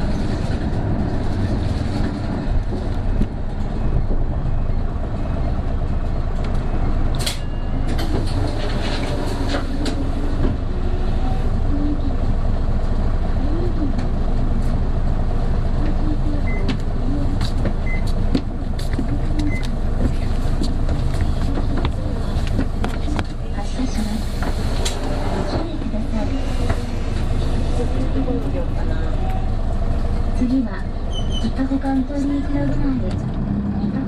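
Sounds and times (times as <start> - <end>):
bus diesel engine under load: 0.0 - 34.0
road rumble: 0.0 - 34.0.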